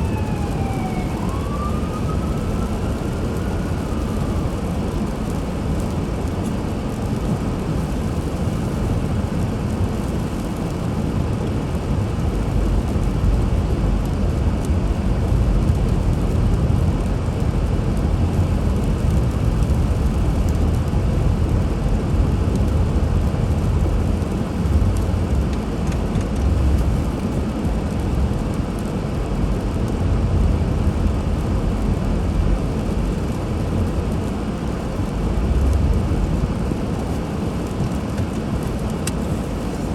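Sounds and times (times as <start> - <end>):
car interior road and engine rumble: 2.0 - 39.9.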